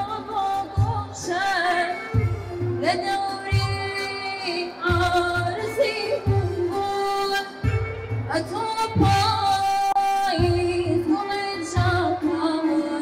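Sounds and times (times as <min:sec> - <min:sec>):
woman singing into microphone: 0:00.0 - 0:13.0.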